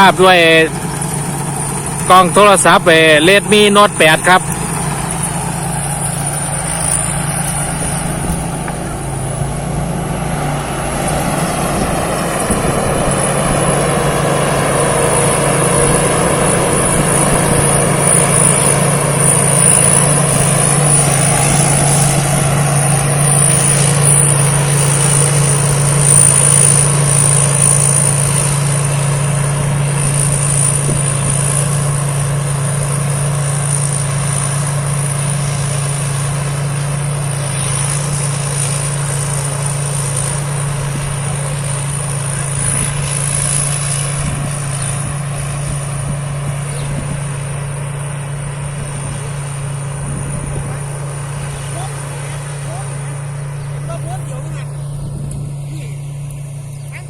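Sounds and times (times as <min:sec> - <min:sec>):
combine harvester engine drone: 0:00.0 - 0:57.0
high machinery whine: 0:00.0 - 0:57.0.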